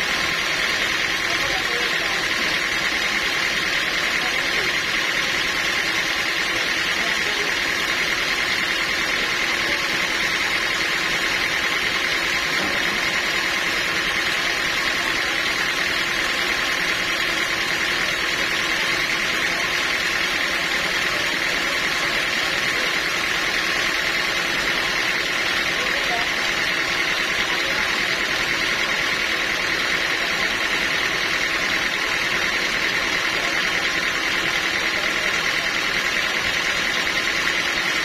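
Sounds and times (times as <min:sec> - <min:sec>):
sawmill machinery whining: 0:00.0 - 0:38.0.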